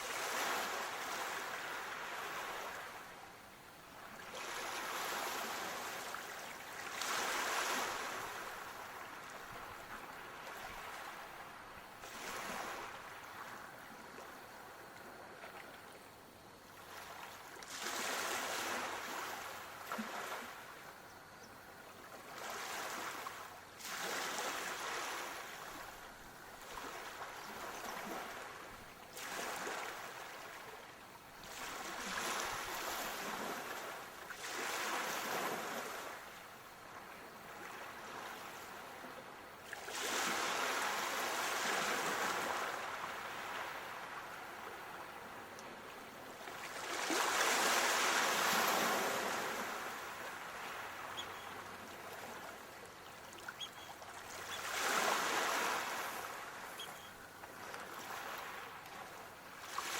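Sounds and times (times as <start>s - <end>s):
ocean waves: 0.0s - 59.9s.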